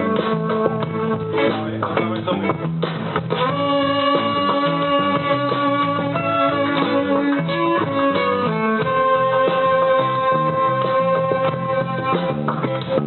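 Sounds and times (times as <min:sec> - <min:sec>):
guitar holding melody notes: 0:00.0 - 0:13.0
repeating bass line: 0:00.0 - 0:13.0.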